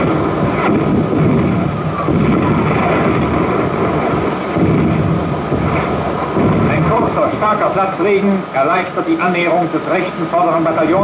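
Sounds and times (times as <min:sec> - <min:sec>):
loud rumbling noise: 0:00.0 - 0:11.0.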